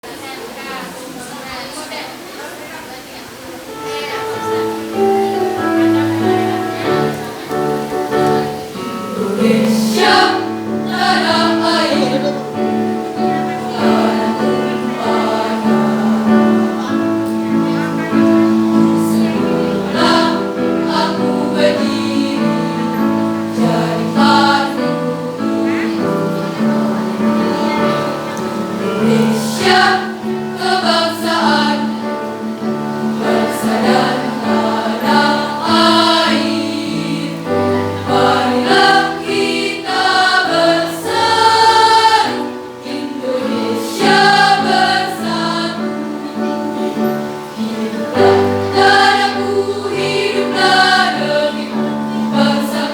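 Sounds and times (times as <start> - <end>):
choir singing: 3.7 - 52.9.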